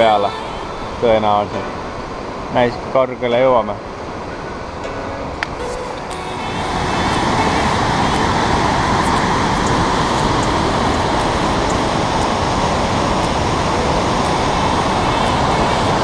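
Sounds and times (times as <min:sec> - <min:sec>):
whitewater rapids roaring: 0:00.0 - 0:16.0.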